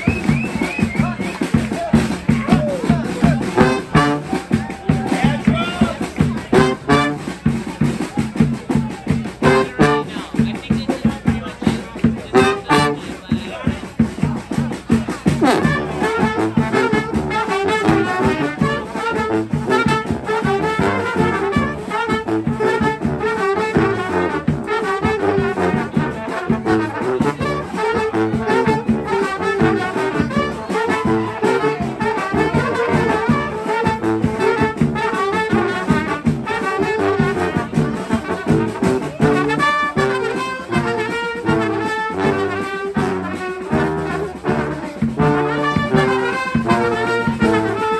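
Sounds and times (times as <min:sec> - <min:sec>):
brass band playing: 0:00.0 - 0:47.9.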